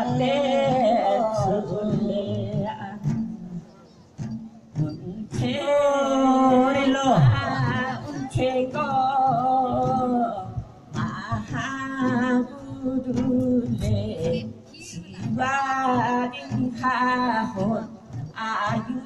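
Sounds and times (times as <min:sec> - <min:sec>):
voices singing unaccompanied: 0:00.0 - 0:03.7, 0:04.7 - 0:19.0.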